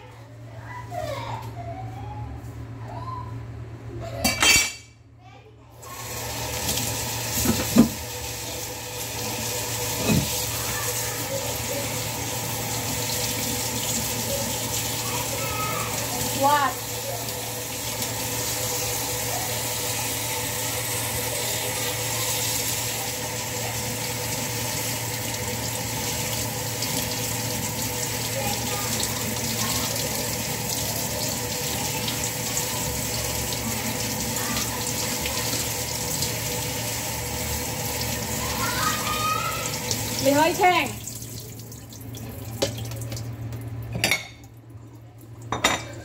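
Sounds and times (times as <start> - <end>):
kitchen faucet running: 5.8 - 46.0.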